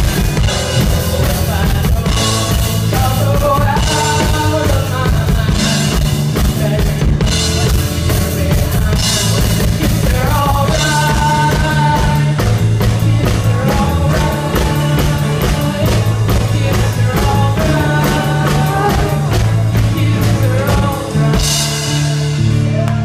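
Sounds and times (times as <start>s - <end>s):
boy singing lead: 0.0s - 23.0s
live rock band playing: 0.0s - 23.0s.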